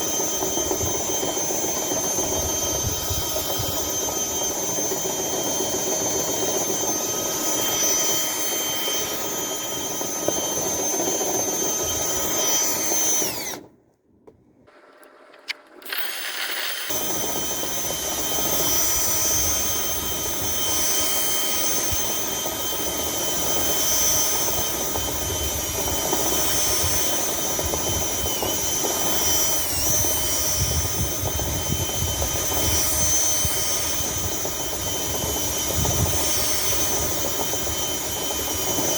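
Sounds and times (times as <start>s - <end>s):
power drill whining: 0.0s - 13.8s, 14.7s - 38.9s.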